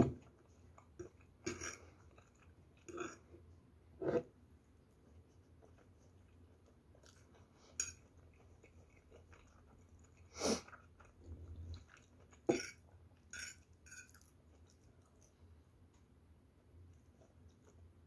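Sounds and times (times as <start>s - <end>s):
quiet chewing: 0.1s - 3.7s, 4.6s - 16.2s, 16.8s - 18.0s.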